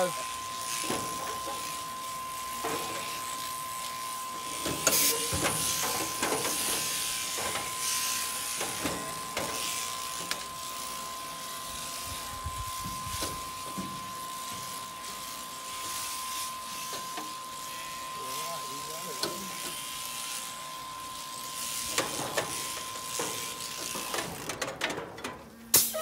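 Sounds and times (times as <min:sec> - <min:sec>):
electric shears whining: 0:00.0 - 0:24.9.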